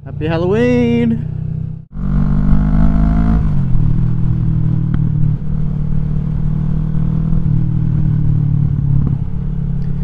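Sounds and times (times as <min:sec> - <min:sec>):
motorcycle engine while riding: 0:00.0 - 0:10.0.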